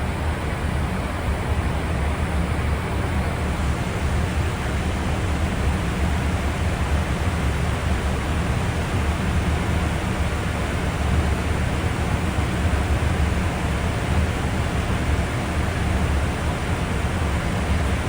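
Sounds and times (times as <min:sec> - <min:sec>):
airplane cabin engine rush: 0:00.0 - 0:18.0.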